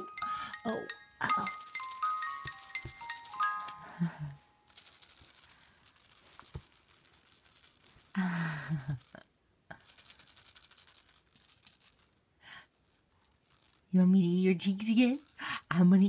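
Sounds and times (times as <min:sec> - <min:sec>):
baby rattle shaking: 0:00.0 - 0:04.0, 0:04.7 - 0:13.9, 0:14.7 - 0:16.0.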